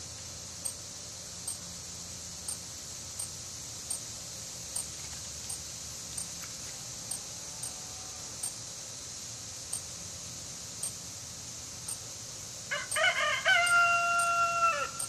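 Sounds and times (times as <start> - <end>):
insect sharp high chirp: 0.0 - 15.0
insects high-pitched drone: 0.0 - 15.0.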